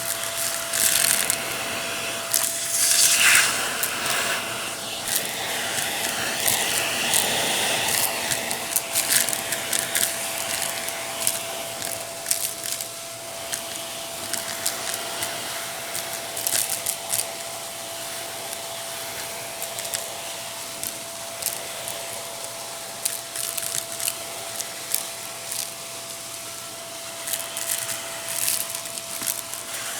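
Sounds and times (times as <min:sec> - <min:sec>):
vacuum cleaner motor whine: 0:00.0 - 0:29.9.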